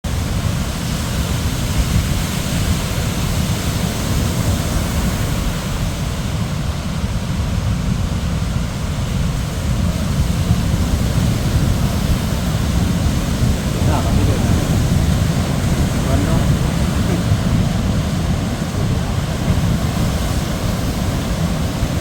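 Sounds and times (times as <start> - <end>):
sea waves washing: 0.1 - 22.0
wind buffeting microphone: 0.1 - 22.0.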